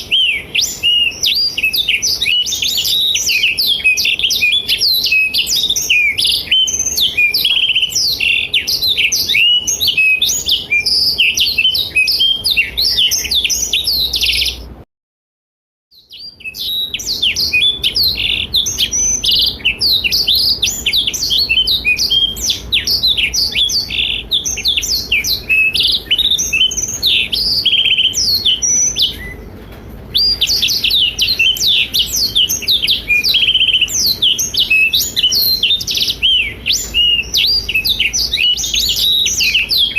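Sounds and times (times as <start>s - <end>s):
canary singing: 0.0s - 14.8s, 15.9s - 39.9s.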